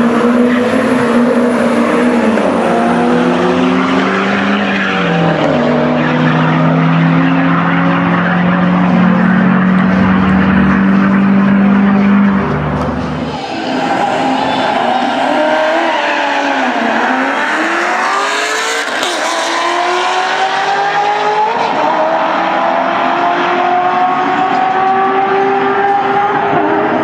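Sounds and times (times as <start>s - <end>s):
cars accelerating hard: 0.0s - 27.0s.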